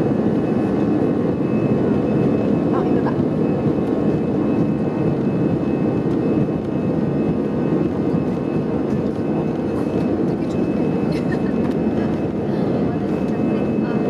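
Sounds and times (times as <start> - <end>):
airplane cabin engine rush: 0.0 - 14.0.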